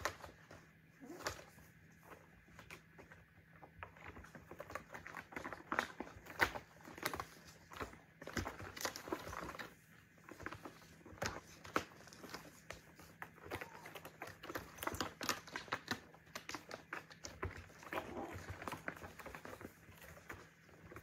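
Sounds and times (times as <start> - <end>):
kittens scratching and clawing: 0.0 - 21.0.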